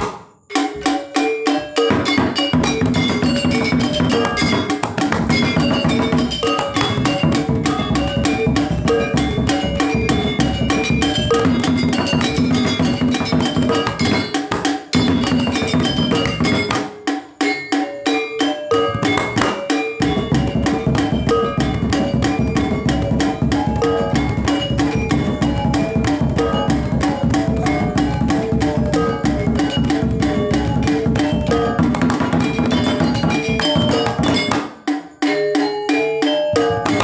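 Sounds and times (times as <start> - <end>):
drums: 0.0 - 37.0
bronze metallophones playing: 0.4 - 37.0.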